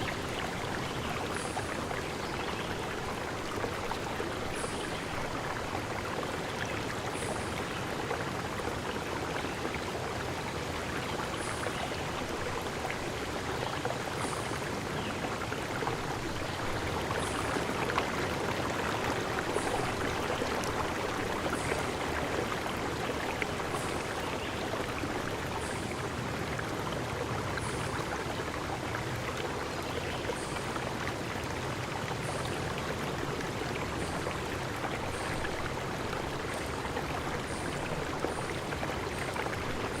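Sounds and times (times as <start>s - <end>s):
flowing water rushing: 0.0s - 40.0s.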